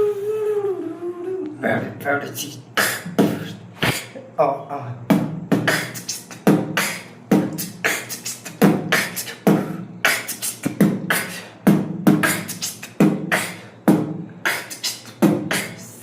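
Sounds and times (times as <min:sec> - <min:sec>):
person beatboxing: 0:00.0 - 0:16.0.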